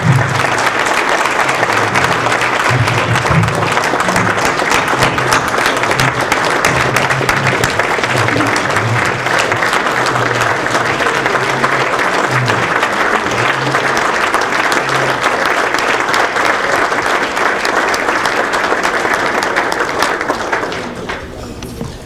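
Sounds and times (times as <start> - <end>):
large crowd applauding: 0.0 - 21.6.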